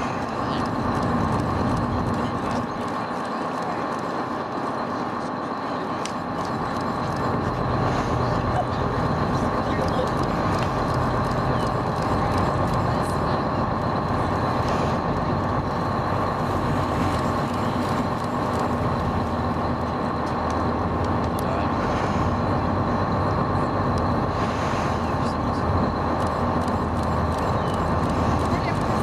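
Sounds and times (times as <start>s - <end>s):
boat engine drone: 0.0s - 29.0s
thin constant whine: 0.0s - 29.0s.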